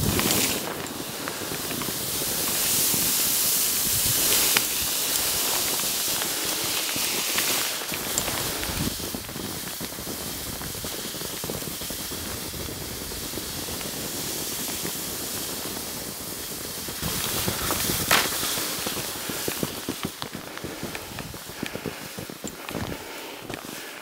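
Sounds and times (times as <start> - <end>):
skis hissing and scraping on snow: 0.0 - 24.0.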